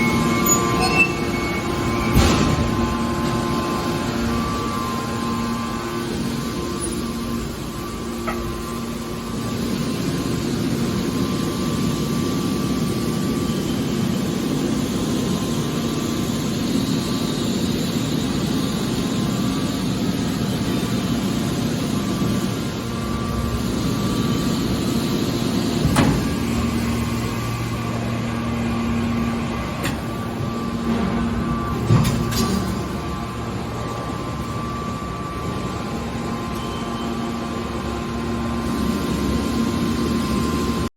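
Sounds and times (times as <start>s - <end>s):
industrial machinery humming: 0.0s - 40.9s.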